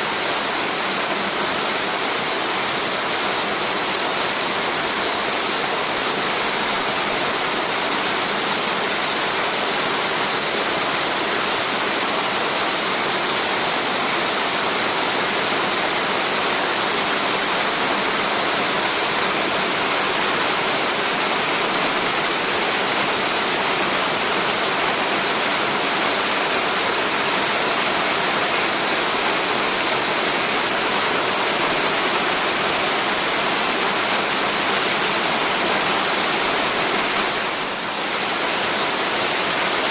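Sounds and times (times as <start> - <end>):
waterfall pouring: 0.0 - 39.9.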